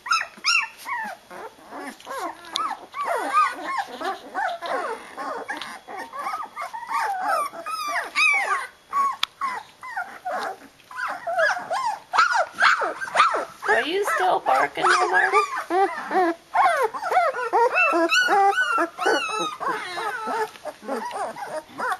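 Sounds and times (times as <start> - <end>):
puppies squealing and whining: 0.0 - 21.9.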